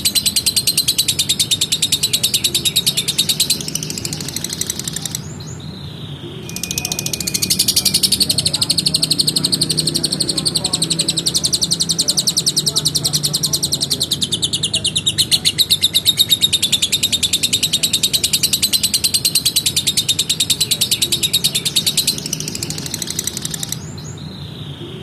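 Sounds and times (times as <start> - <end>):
lovebird rapid chattering trill: 0.0 - 5.8, 6.4 - 24.4.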